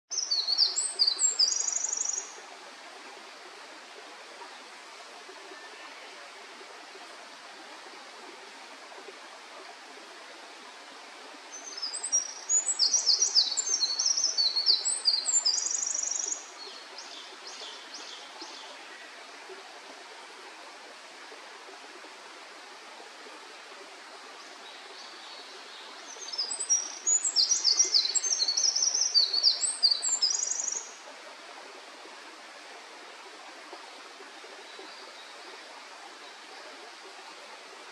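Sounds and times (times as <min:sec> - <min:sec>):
background hiss: 0:00.1 - 0:37.9.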